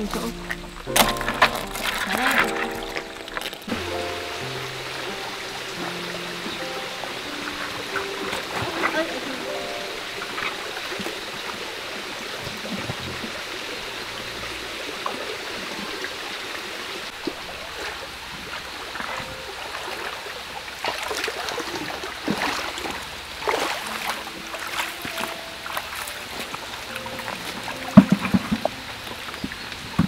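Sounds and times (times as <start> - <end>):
rocky stream running: 0.0 - 30.0.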